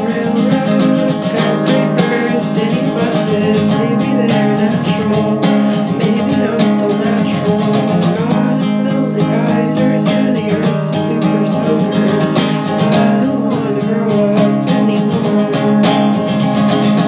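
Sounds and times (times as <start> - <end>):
strummed guitar music: 0.0 - 17.0.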